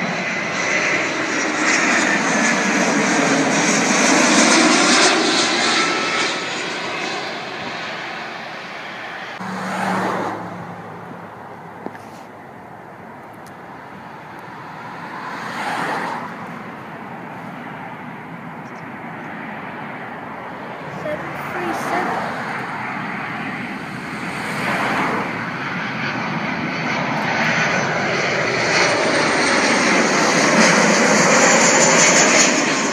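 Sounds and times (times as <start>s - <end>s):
airliner jet engines passing overhead: 0.0s - 32.9s.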